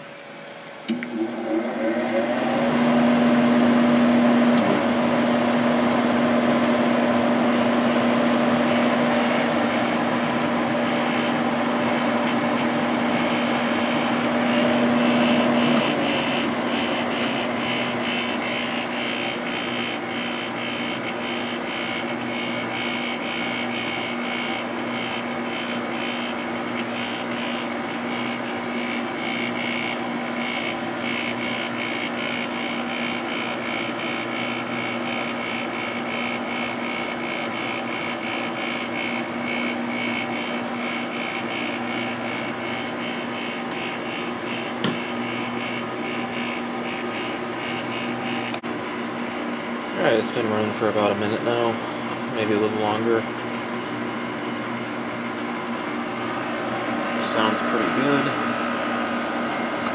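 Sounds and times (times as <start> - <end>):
air conditioner fan humming: 0.0 - 59.9.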